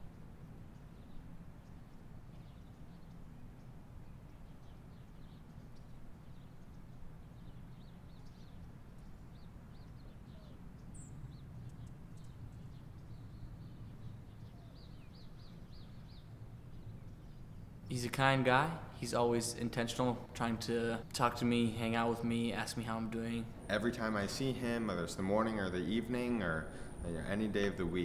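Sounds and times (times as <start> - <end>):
low steady rumble: 0.0 - 28.0
small birds chirping: 0.0 - 28.0.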